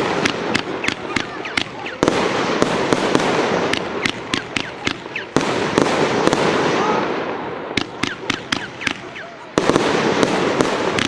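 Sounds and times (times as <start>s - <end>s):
firework bangs and cracks: 0.0s - 11.0s.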